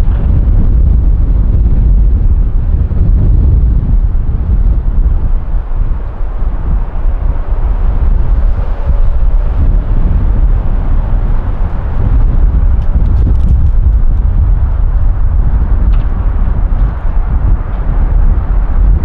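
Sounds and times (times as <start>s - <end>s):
jet engine rumble: 0.0s - 19.0s
wind buffeting microphone: 0.0s - 19.0s.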